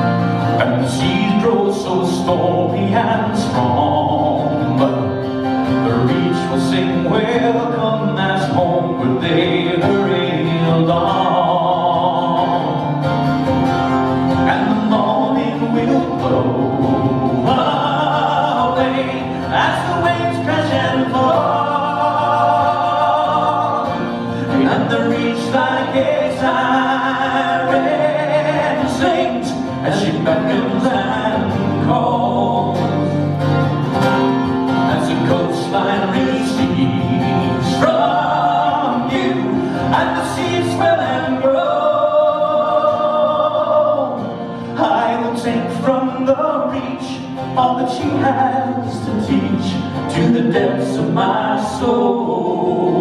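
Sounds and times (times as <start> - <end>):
acoustic guitar: 0.0 - 53.0
men singing: 0.0 - 53.0.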